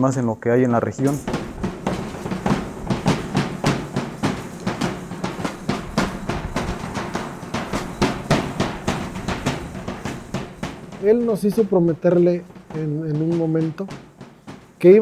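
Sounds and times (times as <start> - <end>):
sharp drum strikes: 1.0 - 15.0.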